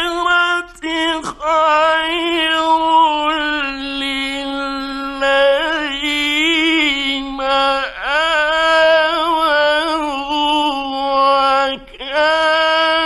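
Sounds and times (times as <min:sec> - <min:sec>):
man reciting in melodic chant: 0:00.0 - 0:13.0.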